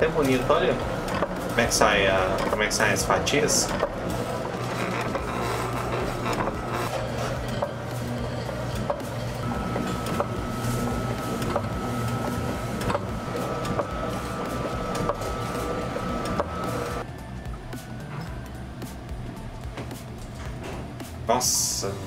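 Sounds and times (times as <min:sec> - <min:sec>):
meat slicer motor hum: 0:00.0 - 0:20.6.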